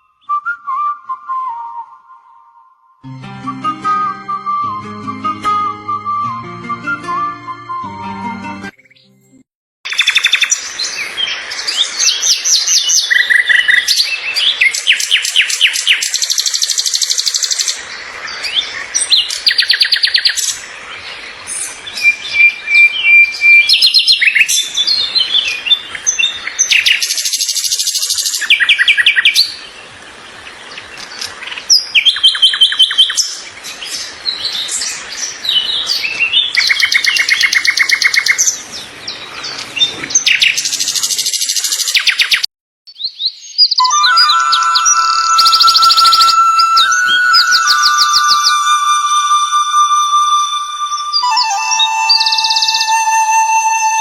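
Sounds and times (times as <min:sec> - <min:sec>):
birds singing and chirping: 0:09.9 - 0:54.0.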